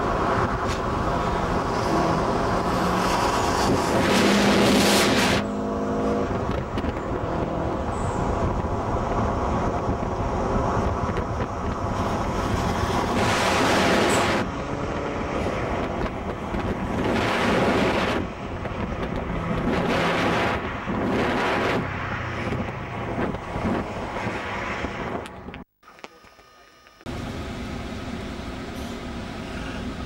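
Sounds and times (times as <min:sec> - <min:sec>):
cars passing close: 0:00.0 - 0:25.6
wind rushing over microphone: 0:00.0 - 0:25.6
car engine and tyre noise: 0:00.0 - 0:30.0.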